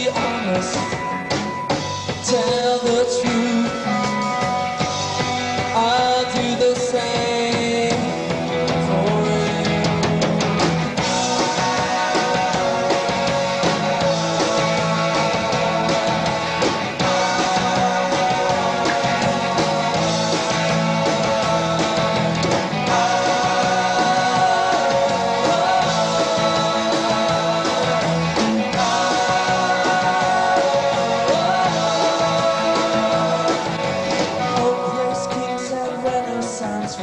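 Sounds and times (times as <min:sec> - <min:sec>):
lead vocal singing: 0:00.0 - 0:01.3, 0:02.1 - 0:04.3, 0:05.6 - 0:37.0
rock band playing: 0:00.0 - 0:37.0.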